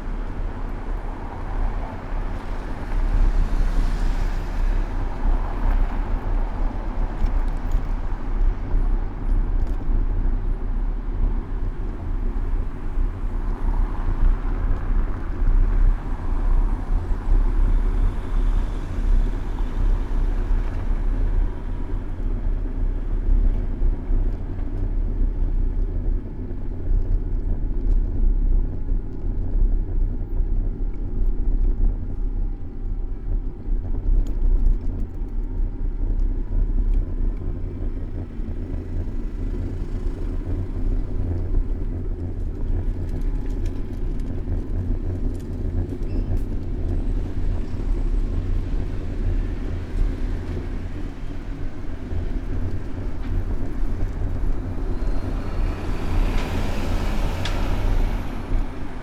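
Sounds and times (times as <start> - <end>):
faint engine whine: 0.0 - 59.0
low rumble of passing vehicles: 0.0 - 59.0
road and ride noise: 0.0 - 59.0.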